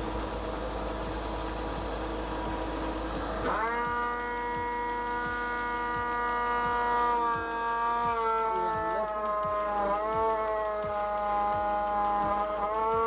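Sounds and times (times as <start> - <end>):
high-pitched pump whine: 0.0 - 13.0
pump engine running: 0.0 - 13.0.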